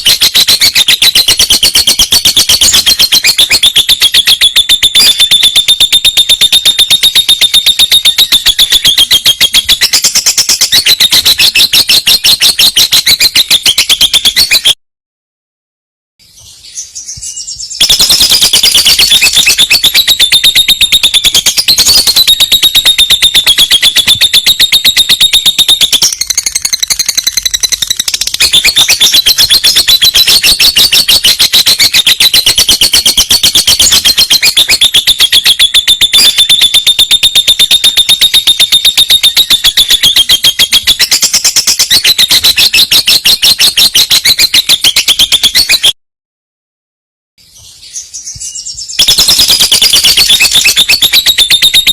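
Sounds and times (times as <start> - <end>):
bird trilling: 0.0 - 14.8, 16.8 - 45.9, 48.0 - 51.9.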